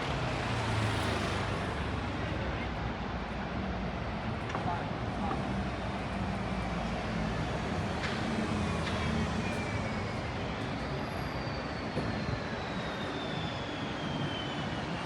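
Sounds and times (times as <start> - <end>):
background traffic noise: 0.0 - 15.0.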